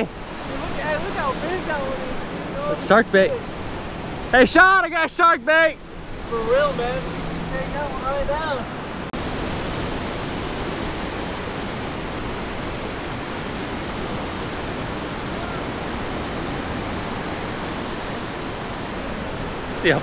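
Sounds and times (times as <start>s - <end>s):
surf breaking in shallows: 0.0s - 20.0s.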